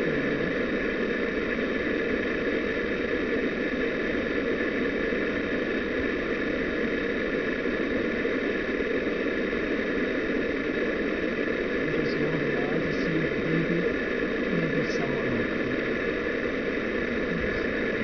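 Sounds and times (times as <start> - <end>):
steady background hum and hiss: 0.0 - 18.0.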